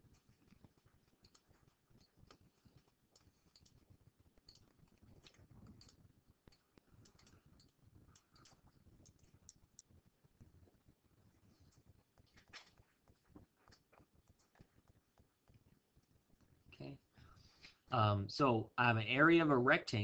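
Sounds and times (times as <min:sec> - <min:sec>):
small irregular clicks: 0:00.0 - 0:16.9.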